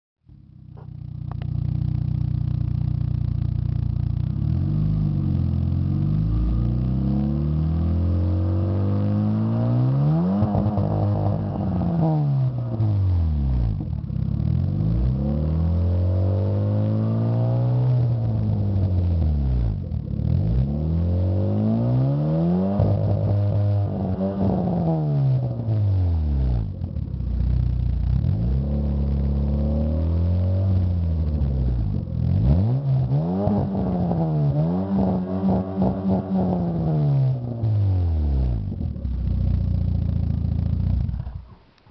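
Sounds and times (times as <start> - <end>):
car engine revving: 0.3 - 41.6.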